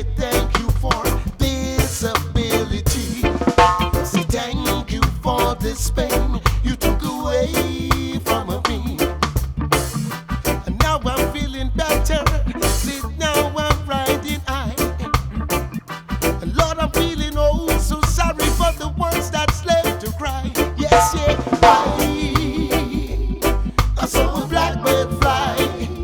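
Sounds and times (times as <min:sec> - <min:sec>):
reggae band playing: 0:00.0 - 0:26.0.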